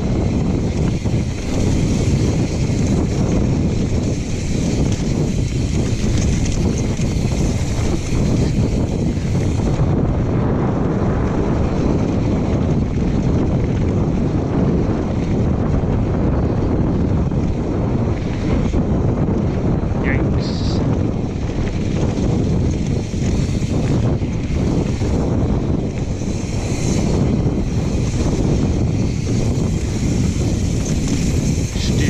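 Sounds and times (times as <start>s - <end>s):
bike tyres rolling on dirt trail: 0.0s - 32.0s
wind rushing over microphone: 0.0s - 32.0s.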